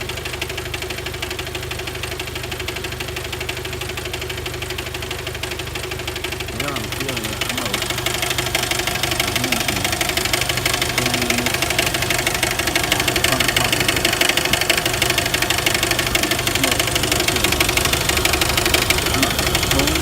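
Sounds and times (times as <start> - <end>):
engine idling with ticking clatter: 0.0 - 20.0.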